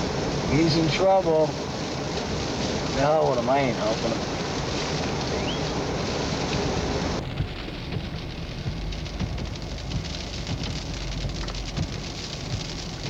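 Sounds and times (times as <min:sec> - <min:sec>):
low steady rumble: 0:00.0 - 0:13.0
snow pattering against vehicle: 0:00.0 - 0:13.0.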